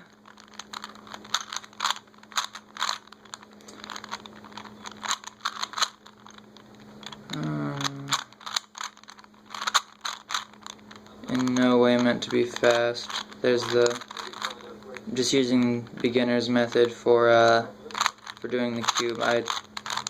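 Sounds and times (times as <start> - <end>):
plastic puzzle cube clicking: 0.0 - 20.0.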